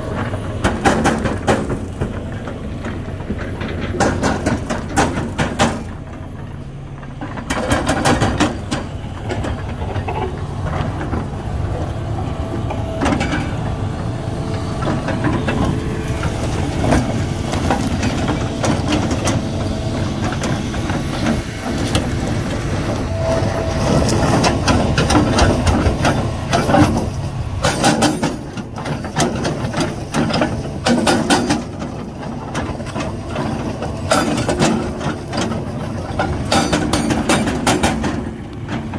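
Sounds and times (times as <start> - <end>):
excavator diesel engine running: 0.0 - 38.9
metallic clanks and knocks: 0.2 - 14.1, 14.8 - 38.9.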